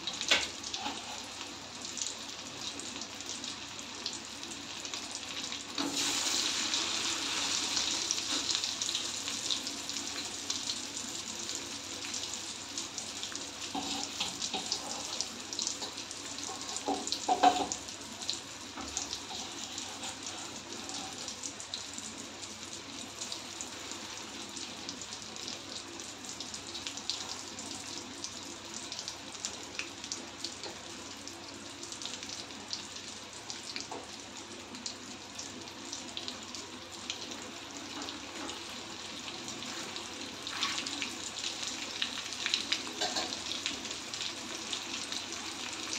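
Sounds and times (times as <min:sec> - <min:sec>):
chicken sizzling in hot oil: 0:00.0 - 0:45.9.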